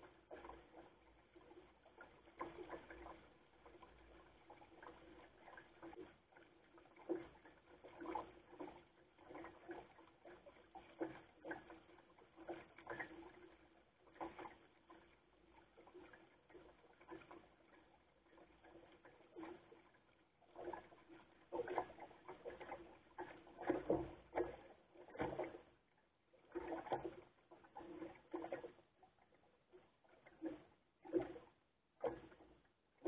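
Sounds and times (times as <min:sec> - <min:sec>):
water splashing against boat hull: 0:00.0 - 0:33.0.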